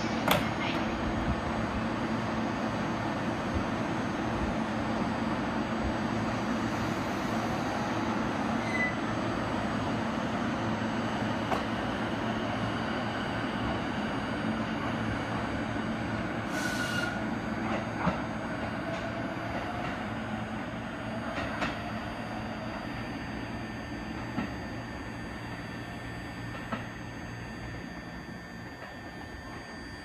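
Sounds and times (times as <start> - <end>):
electric train pulling away: 1.4 - 30.0.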